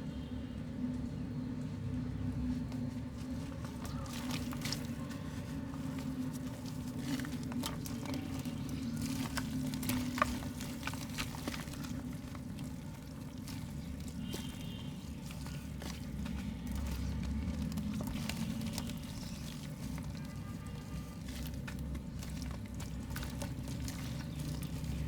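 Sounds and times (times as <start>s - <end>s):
wet mud crumbling by hand: 2.4s - 25.0s.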